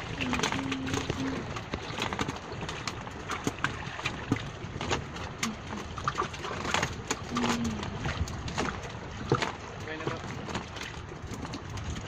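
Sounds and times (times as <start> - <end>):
water lapping against a boat: 0.0 - 12.0.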